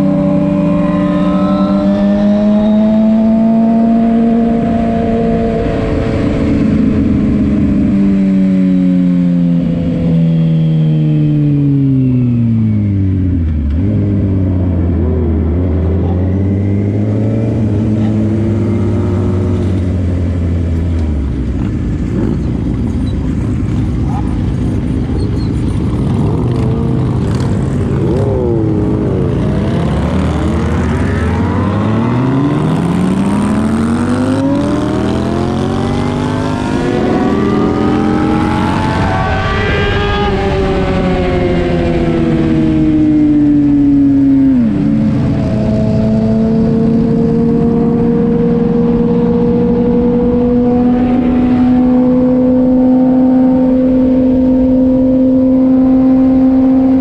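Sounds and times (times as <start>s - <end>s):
other engines passing: 0.0s - 10.0s, 11.3s - 57.0s
vehicle engine accelerating: 0.0s - 57.0s.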